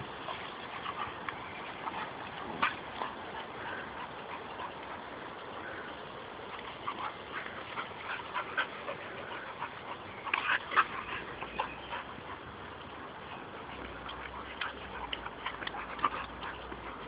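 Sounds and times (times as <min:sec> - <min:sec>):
dogs growling and barking: 0:00.0 - 0:05.4, 0:06.4 - 0:17.0.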